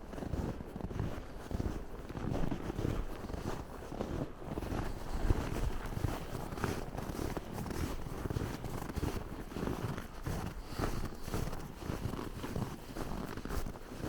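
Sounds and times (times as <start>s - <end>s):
footsteps crunching in snow: 0.1s - 14.0s.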